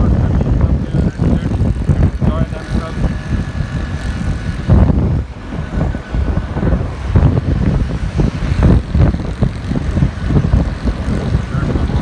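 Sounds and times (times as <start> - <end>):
road traffic noise: 0.0 - 12.0
wind buffeting microphone: 0.0 - 12.0.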